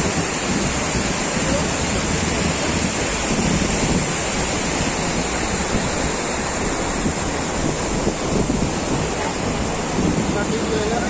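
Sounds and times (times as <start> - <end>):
river rapids rushing: 0.0 - 11.0
wind buffeting microphone: 0.0 - 11.0.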